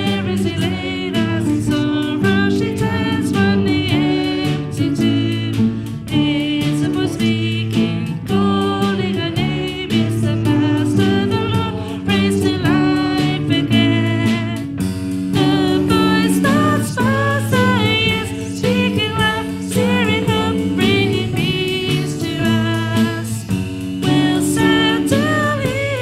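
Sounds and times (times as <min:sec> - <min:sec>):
instrumental accompaniment: 0:00.0 - 0:26.0
voices singing worship song: 0:00.0 - 0:26.0.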